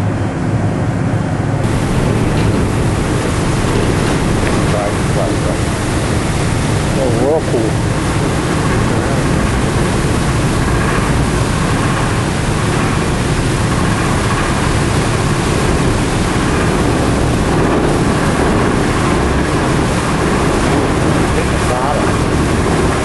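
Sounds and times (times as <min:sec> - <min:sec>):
foaming water rushing: 0:00.0 - 0:23.0
wind on microphone: 0:00.0 - 0:23.0.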